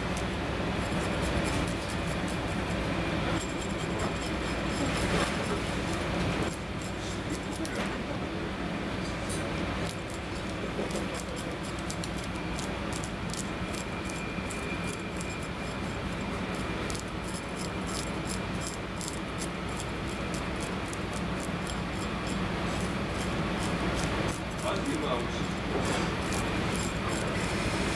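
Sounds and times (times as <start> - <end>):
knife scraping fish scales: 0.0 - 7.9, 9.8 - 27.9
low background hum: 0.0 - 27.9.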